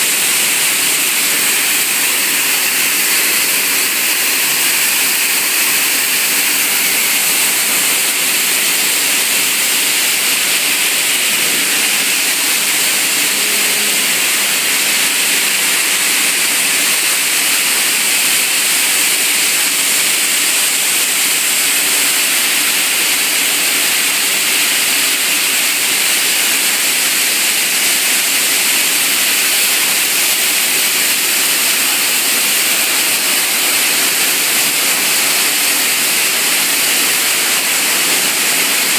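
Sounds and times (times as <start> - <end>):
washing line machinery hissing: 0.0 - 38.9.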